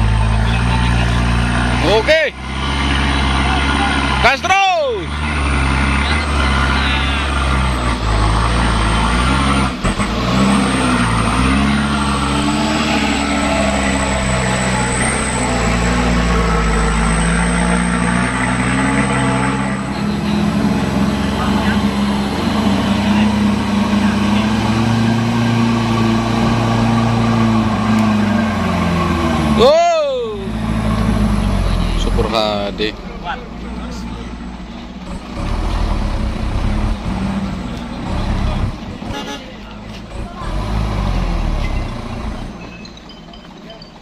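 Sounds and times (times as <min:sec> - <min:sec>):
diesel truck engine climbing hill: 0:00.0 - 0:44.0.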